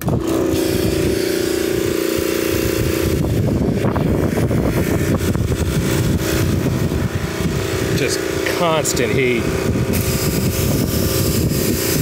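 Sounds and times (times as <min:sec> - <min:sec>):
pressure washer running: 0:00.0 - 0:12.0.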